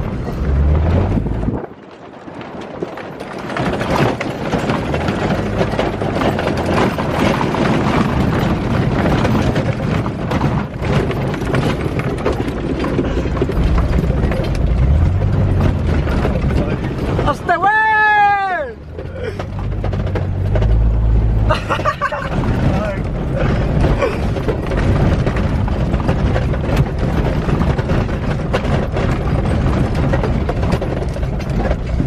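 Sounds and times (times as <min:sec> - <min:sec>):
jeep engine rumble: 0:00.0 - 0:32.0
rattles knocks and crunches: 0:00.0 - 0:32.0.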